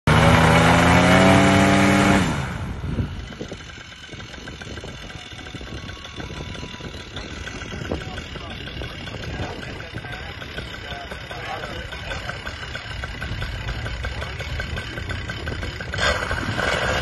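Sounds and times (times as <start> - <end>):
paramotor engine revving: 0.1 - 17.0.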